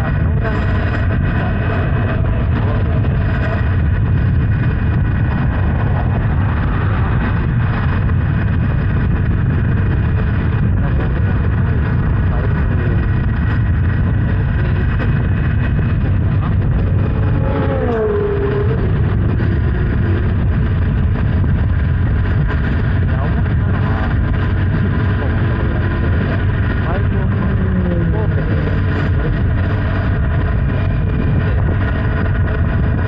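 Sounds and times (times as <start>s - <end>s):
motorcycle engine: 0.0s - 33.0s
wind rushing over microphone: 0.0s - 33.0s.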